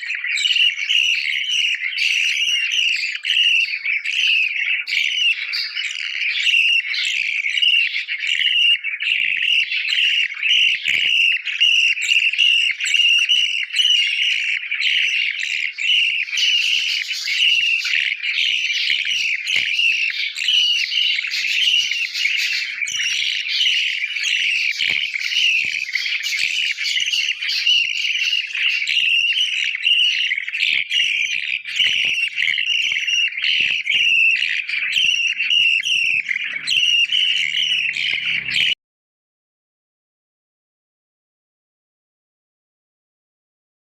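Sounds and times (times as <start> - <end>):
budgies chirping: 0.0 - 38.8.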